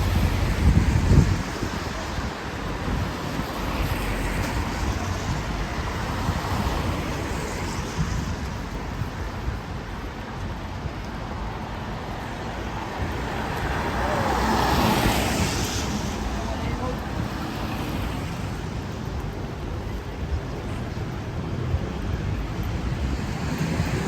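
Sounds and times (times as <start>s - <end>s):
traffic on wet road: 0.0s - 24.0s.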